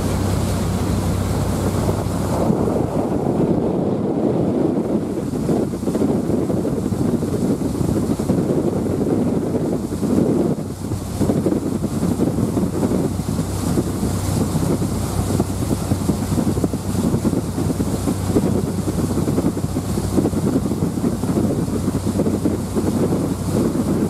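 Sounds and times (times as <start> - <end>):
ferry engine drone: 0.0 - 24.0
water rushing along hull: 0.0 - 24.0
wind buffeting microphone: 0.0 - 24.0.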